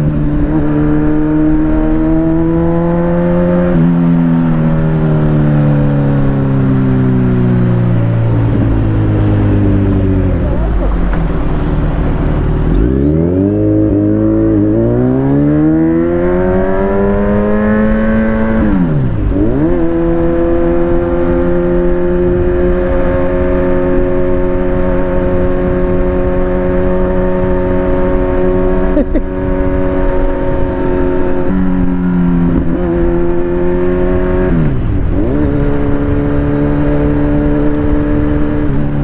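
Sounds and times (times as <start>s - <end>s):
motorcycle engine revving: 0.0s - 39.0s
wind and road noise: 0.0s - 39.0s.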